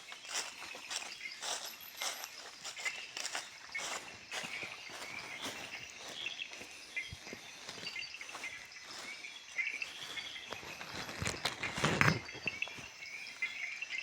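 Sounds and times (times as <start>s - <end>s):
footsteps on forest floor: 0.0s - 14.0s
insects chirping: 0.0s - 14.0s.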